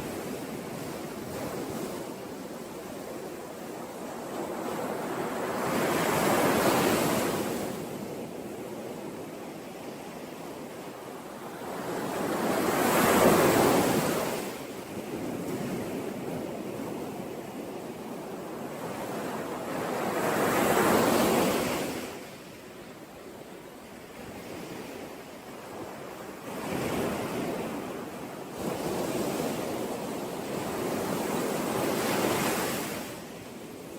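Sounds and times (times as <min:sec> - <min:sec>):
sea waves breaking on shore: 0:00.0 - 0:33.9.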